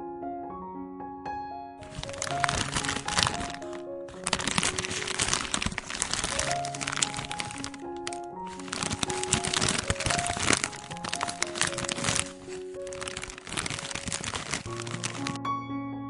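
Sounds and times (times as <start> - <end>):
soft piano music: 0.0 - 16.0
plastic piping bag crinkling: 1.8 - 15.4.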